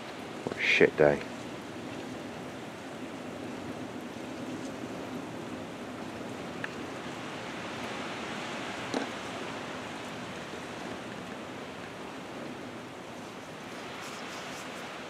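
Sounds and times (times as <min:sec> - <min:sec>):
rain: 0:00.0 - 0:15.0
wind: 0:00.0 - 0:15.0.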